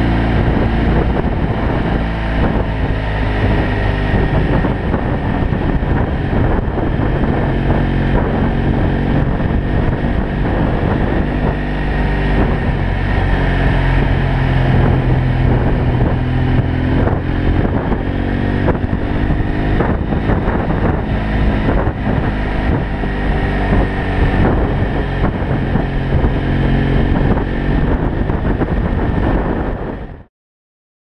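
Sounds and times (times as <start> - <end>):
motorcycle engine running: 0.0 - 30.3
wind noise on microphone: 0.0 - 30.3.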